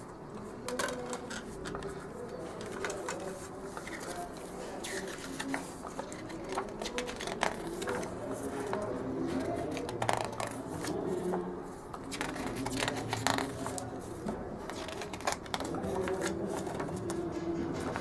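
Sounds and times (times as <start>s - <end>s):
paper pages rustling: 0.4s - 18.0s.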